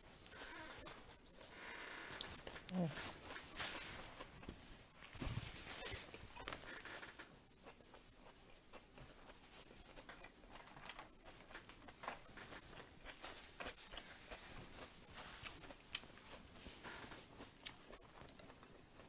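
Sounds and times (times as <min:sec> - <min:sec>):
chewing crispy fried chicken: 0:00.0 - 0:19.0.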